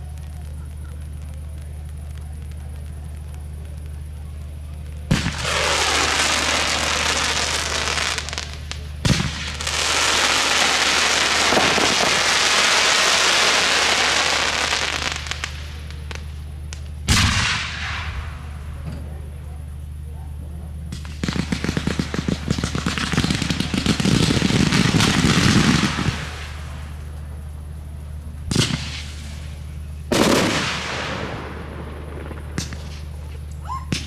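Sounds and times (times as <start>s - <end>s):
firework crackling hiss: 0.0s - 20.1s, 20.9s - 34.0s
firework bangs: 0.0s - 20.2s, 20.8s - 34.0s.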